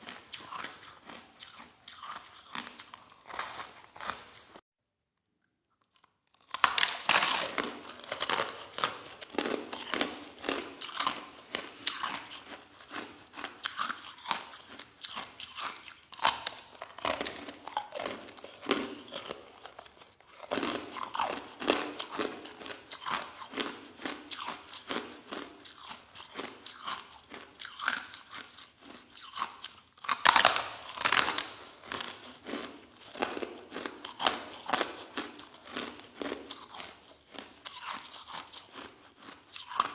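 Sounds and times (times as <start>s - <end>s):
person chewing crushed ice: 0.0s - 4.6s, 5.4s - 39.9s.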